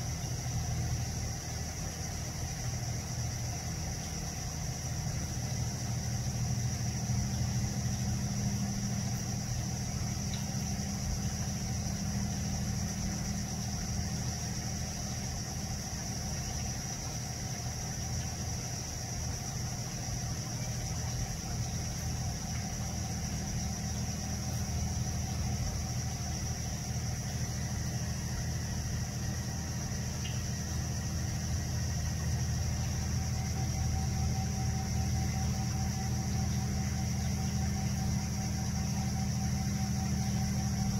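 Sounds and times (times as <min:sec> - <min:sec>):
engine idling hum: 0:00.0 - 0:40.9.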